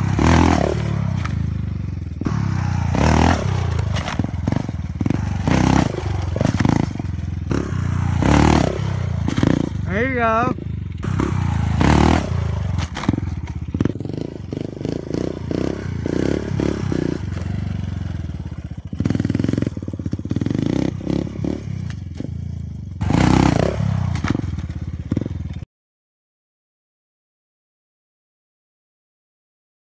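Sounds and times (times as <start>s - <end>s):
dirt bike engine revving: 0.0s - 25.4s.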